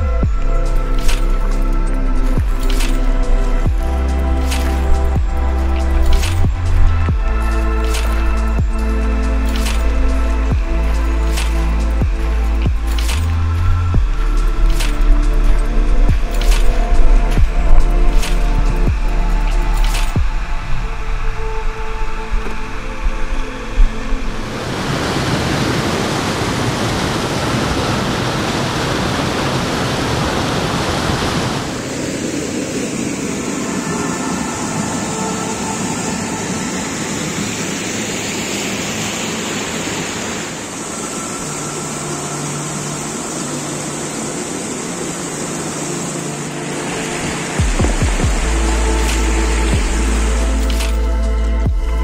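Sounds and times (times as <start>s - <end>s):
stream rushing over boulders: 0.0s - 52.0s.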